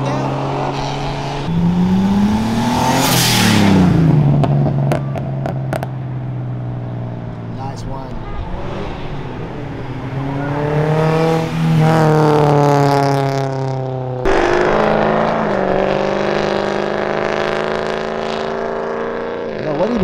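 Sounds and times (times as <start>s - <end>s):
car engine revving: 0.0s - 20.0s
car pulling away: 0.0s - 20.0s.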